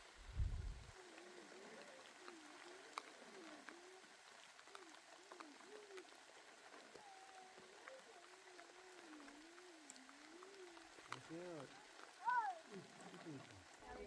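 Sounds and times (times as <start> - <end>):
faint ticks: 0.0 - 14.0.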